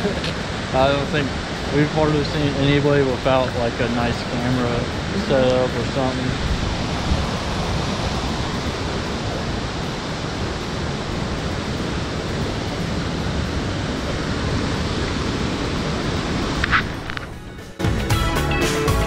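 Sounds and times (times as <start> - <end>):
creek rushing over rocks: 0.0 - 17.7.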